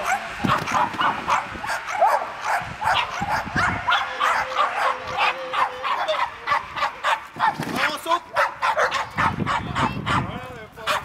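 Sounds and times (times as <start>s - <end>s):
dog barking in high yips: 0.0s - 7.6s, 8.4s - 10.3s.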